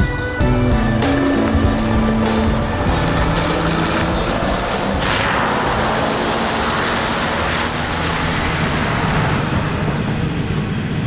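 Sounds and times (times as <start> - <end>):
vehicle engine running: 0.2 - 11.0
tyres splashing through water: 0.9 - 10.2.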